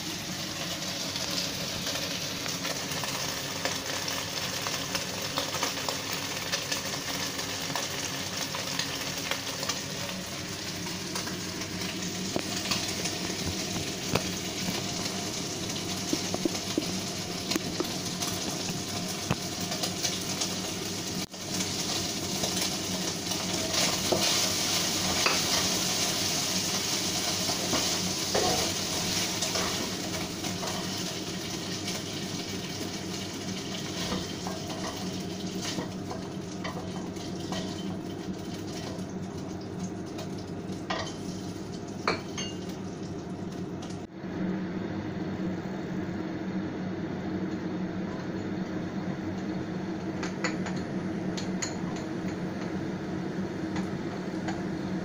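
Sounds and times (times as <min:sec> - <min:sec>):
meat sizzling in a wok: 0:00.0 - 0:44.1
steady hum: 0:00.0 - 0:55.0.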